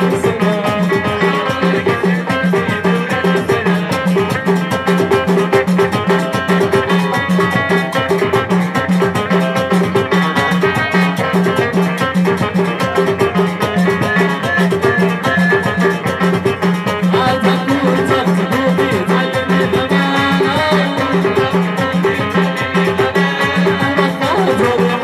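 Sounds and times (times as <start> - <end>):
electric guitar repeating figure: 0.0 - 25.0
hand and frame drums: 0.0 - 25.0.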